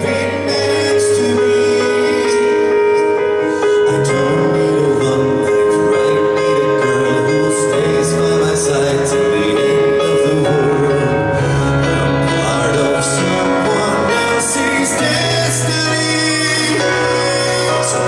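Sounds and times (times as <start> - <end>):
man singing into a microphone: 0.0 - 18.0
piano accompaniment: 0.0 - 18.0.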